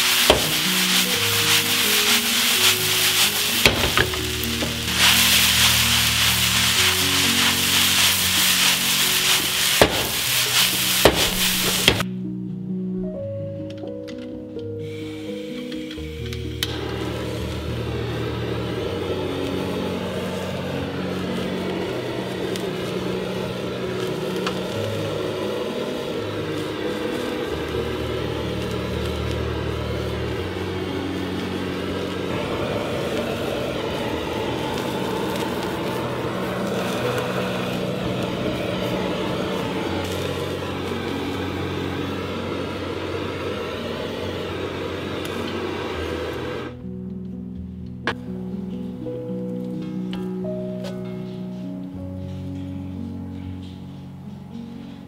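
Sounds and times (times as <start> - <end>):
food sizzling in a wok: 0.0 - 12.1, 14.8 - 46.8.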